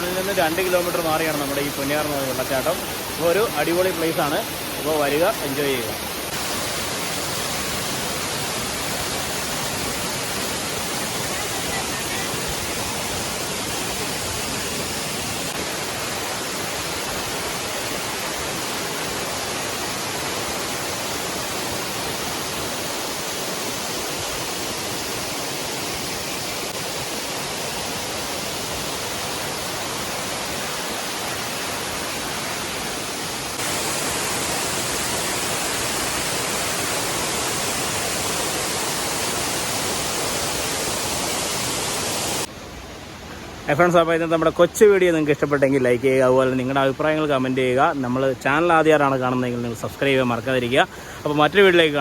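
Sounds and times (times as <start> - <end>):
waterfall roaring onto rocks: 0.0 - 52.0.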